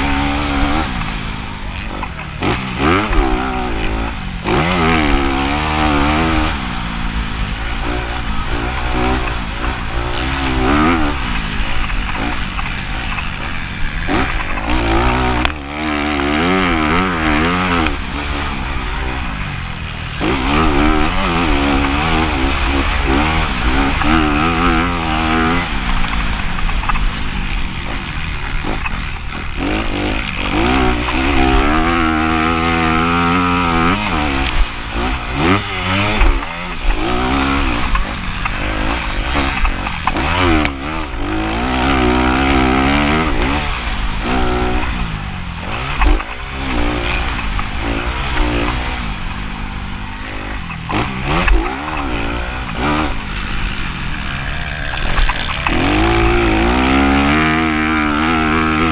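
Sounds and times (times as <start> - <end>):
motocross bike engines revving: 0.0 - 58.9.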